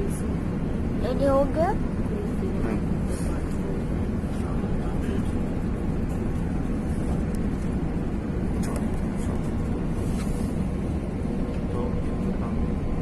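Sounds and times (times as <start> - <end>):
airliner cabin engine roar: 0.0 - 13.0.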